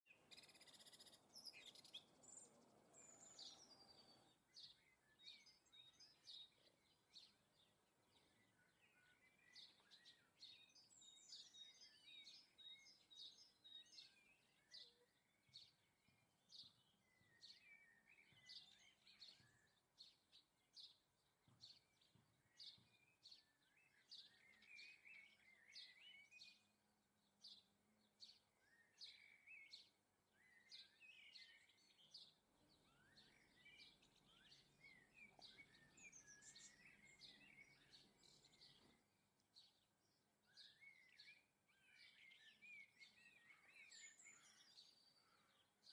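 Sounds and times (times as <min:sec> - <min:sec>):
songbird chirps: 0:00.0 - 0:45.9.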